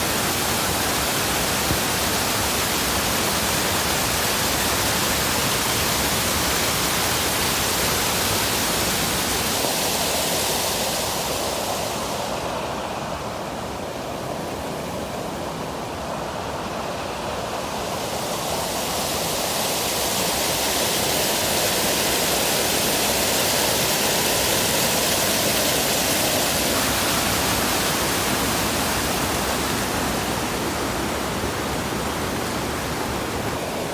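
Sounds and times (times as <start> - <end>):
rushing waterfall: 0.0 - 33.9.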